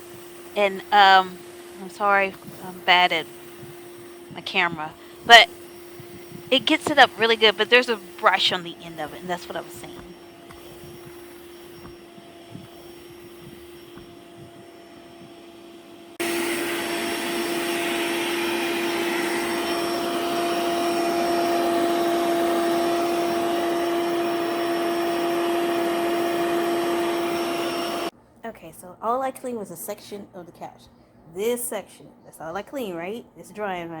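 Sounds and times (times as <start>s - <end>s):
upholstery cleaner motor hum: 0.0s - 28.1s.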